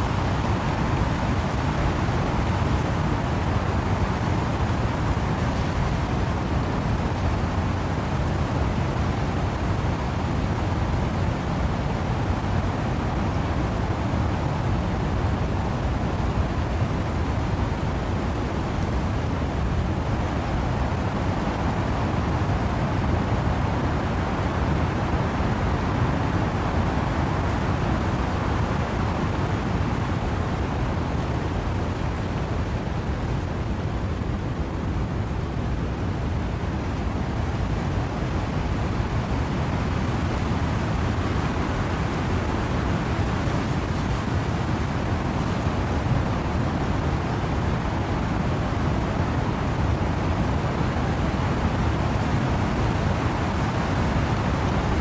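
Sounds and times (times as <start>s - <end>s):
wind and rain in trees: 0.0s - 55.0s.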